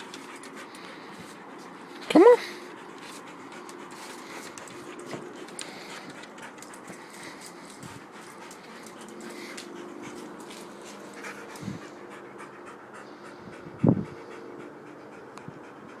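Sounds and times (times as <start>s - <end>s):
puppy panting: 0.0s - 16.0s.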